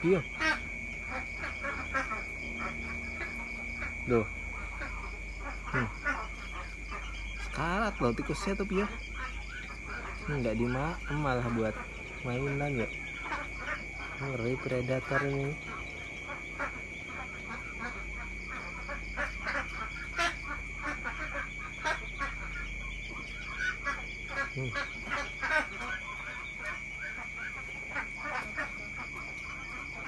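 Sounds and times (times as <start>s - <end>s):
frogs croaking: 0.0s - 30.0s.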